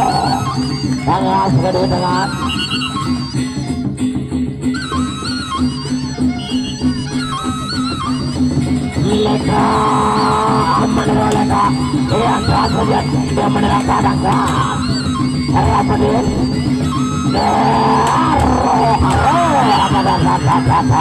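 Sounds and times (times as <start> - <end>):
gamelan ensemble playing: 0.0 - 21.0.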